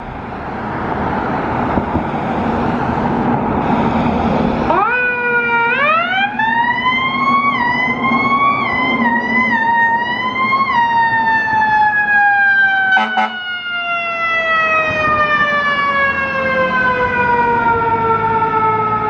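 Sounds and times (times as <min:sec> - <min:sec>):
fire truck rushing rumble: 0:00.0 - 0:19.0.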